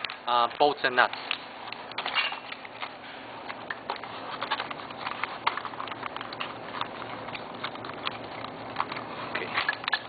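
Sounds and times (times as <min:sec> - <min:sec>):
small hardware clicking and rustling: 0:00.0 - 0:10.0.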